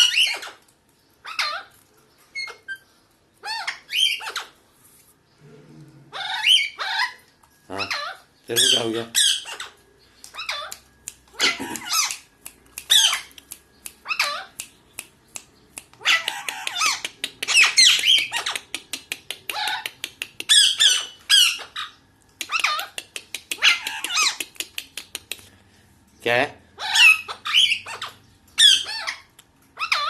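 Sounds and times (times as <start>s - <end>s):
parrots squawking: 0.0s - 4.6s, 6.0s - 14.6s, 15.9s - 25.5s, 26.6s - 30.0s.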